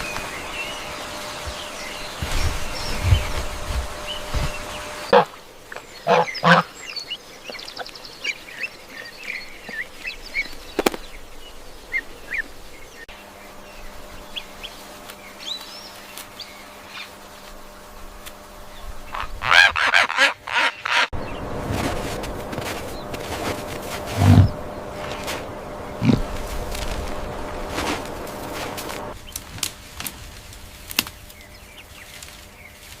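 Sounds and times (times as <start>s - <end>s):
birds chirping and calling: 0.0s - 17.5s, 18.7s - 29.4s.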